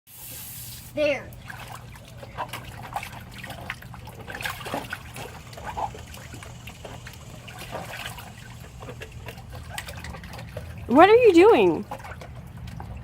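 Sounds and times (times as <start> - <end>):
water splashing in a tub: 0.1 - 13.0
steady low hum: 0.6 - 13.0.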